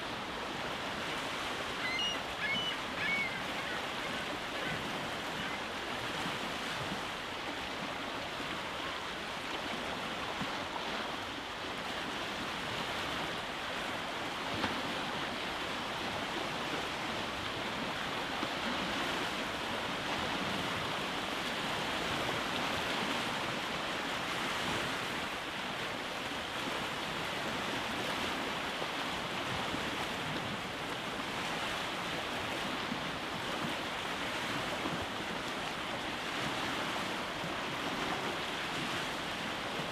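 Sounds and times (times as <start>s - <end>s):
waves breaking on rocky shore: 0.0s - 39.9s.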